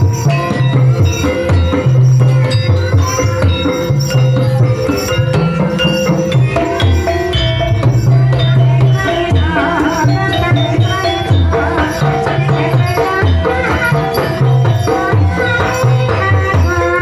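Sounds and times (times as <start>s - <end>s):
hand drums: 0.0s - 17.0s
struck pitched metal instruments: 0.0s - 17.0s.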